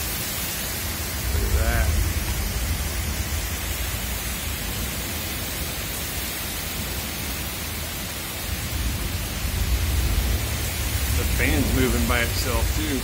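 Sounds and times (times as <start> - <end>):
heavy rain pouring: 0.0 - 13.0
low rumble of wind: 0.0 - 13.0.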